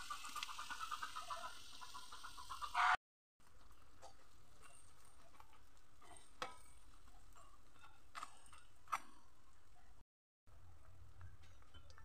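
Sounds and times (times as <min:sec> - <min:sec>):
faint oil sizzle: 0:00.0 - 0:09.9.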